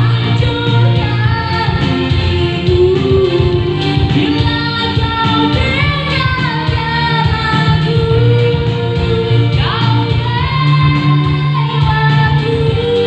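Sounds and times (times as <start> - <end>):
keyboard accompaniment: 0.0 - 13.0
woman singing into microphone: 0.0 - 13.0.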